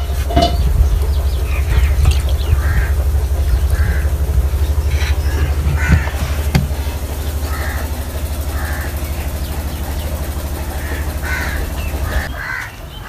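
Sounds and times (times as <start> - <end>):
crows cawing: 0.0 - 13.0
low throbbing drone: 0.0 - 13.0.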